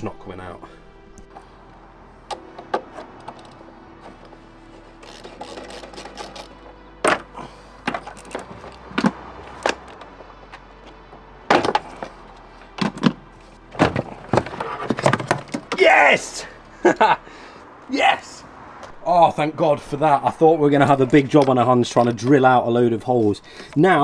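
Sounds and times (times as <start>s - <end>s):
quiet background music: 0.0s - 24.0s.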